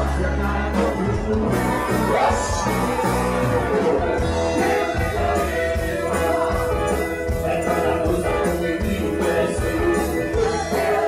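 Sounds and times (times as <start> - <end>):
man singing: 0.0 - 11.0
rock band playing: 0.0 - 11.0.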